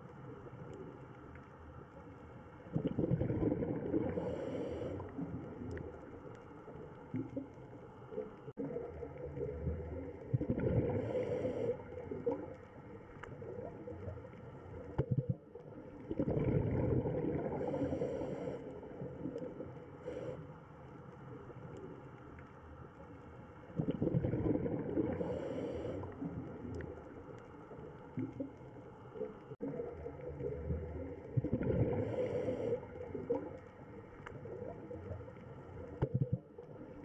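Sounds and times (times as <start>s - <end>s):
exhaled bubbles underwater: 2.6s - 20.4s, 23.7s - 37.0s.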